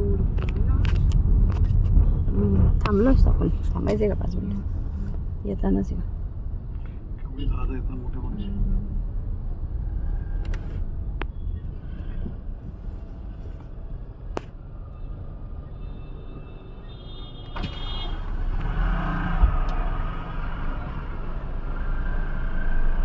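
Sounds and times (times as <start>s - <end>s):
vehicles passing: 0.0s - 23.0s.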